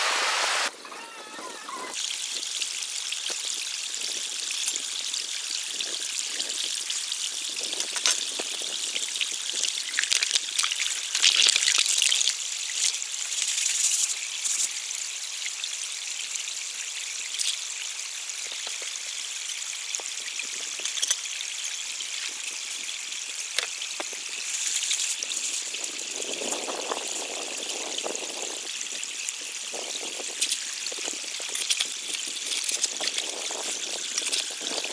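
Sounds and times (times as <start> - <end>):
running water trickling: 0.0 - 34.9
water gushing: 0.0 - 34.9.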